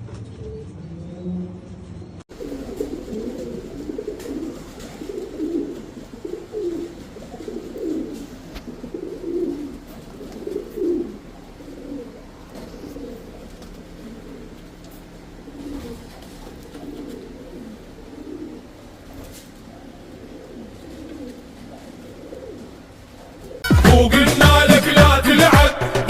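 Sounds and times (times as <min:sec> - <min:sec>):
pigeons cooing: 0:02.3 - 0:23.7.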